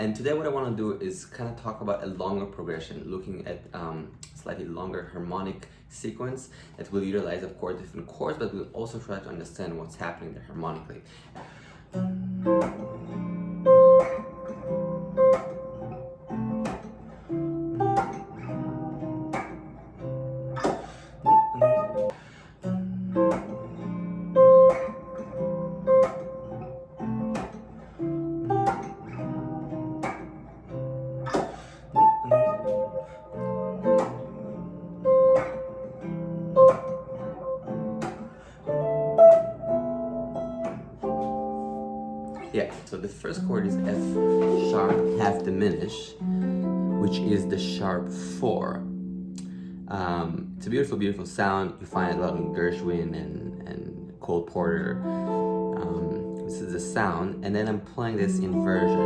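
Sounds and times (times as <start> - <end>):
jazz guitar chords: 6.9 - 59.0.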